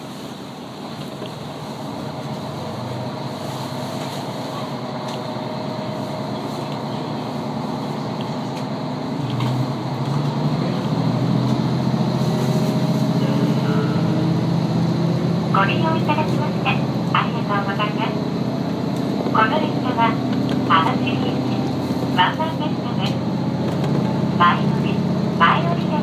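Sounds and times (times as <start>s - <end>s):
low engine drone: 0.0s - 26.0s
railcar rumble: 0.0s - 26.0s.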